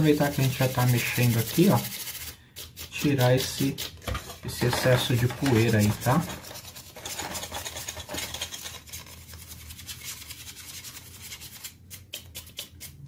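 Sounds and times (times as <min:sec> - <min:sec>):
paintbrush brushing plastic fan: 0:00.0 - 0:13.0.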